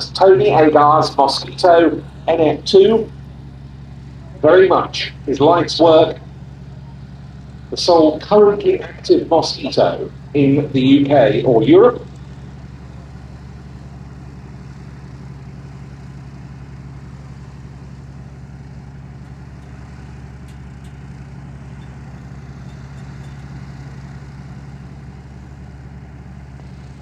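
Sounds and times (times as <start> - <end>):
aircraft engines idling: 0.0 - 27.0.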